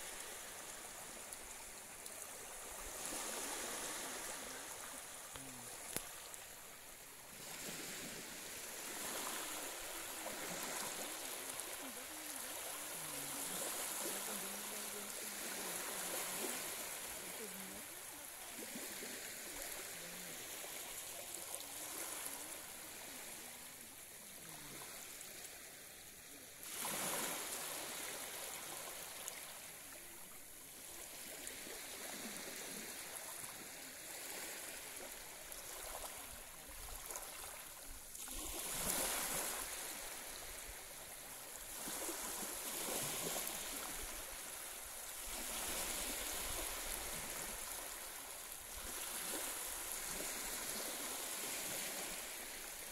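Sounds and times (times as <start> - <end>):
waves lapping on sandy beach: 0.0 - 52.9.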